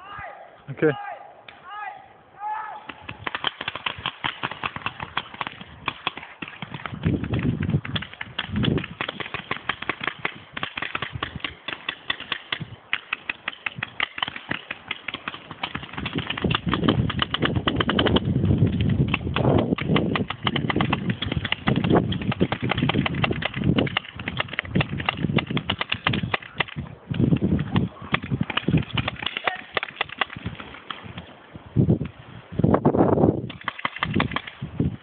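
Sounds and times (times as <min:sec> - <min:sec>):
paintball markers firing: 0:02.9 - 0:31.3, 0:33.5 - 0:34.6.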